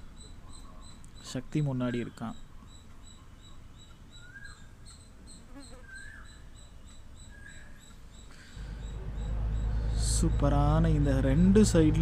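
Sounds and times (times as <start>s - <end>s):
insect chirping: 0.0s - 11.4s
bird chirps: 0.0s - 11.9s.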